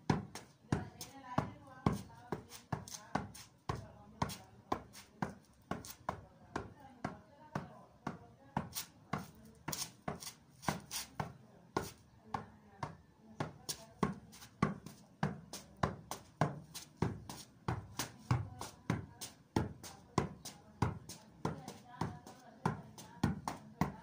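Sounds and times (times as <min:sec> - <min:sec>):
soccer ball kick thuds: 0:00.0 - 0:24.0.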